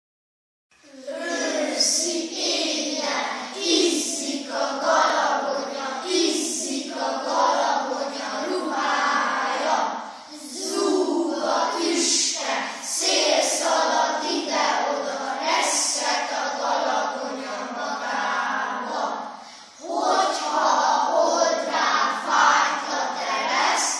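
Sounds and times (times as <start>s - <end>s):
boys chanting in unison: 0.9s - 23.9s.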